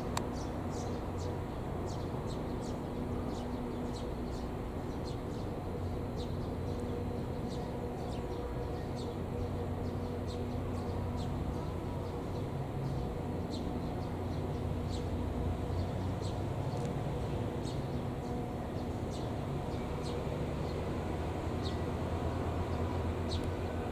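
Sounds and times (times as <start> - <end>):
low rumble and hum: 0.0 - 23.9
birds chirping: 0.2 - 23.8.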